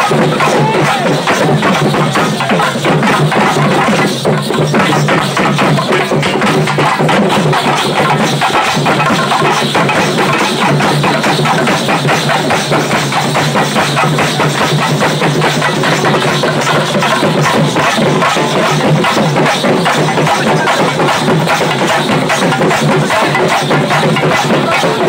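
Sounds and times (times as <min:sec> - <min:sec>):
fast drum-led music: 0:00.0 - 0:25.0.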